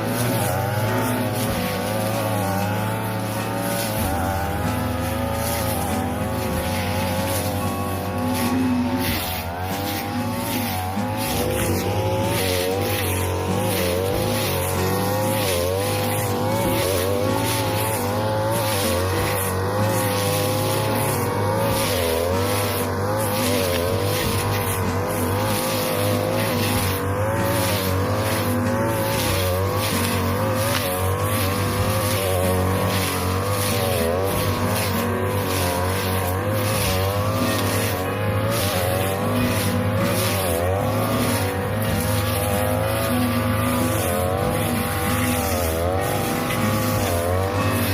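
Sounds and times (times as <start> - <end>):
brush cutter engine running: 0.0 - 47.9.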